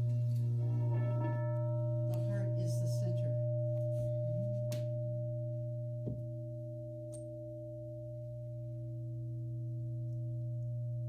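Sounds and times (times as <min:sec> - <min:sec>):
singing bowl ringing: 0:00.0 - 0:11.0.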